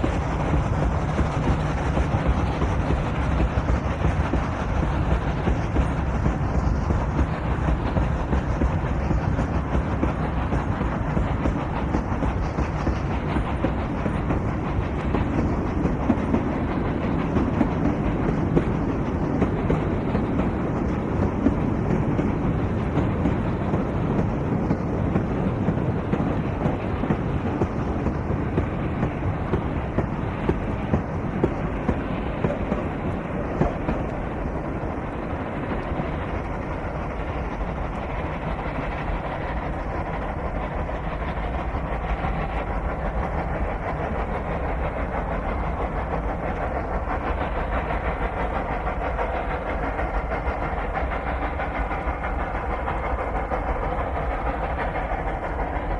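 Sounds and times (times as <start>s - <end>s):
steam train rumble: 0.0s - 55.9s.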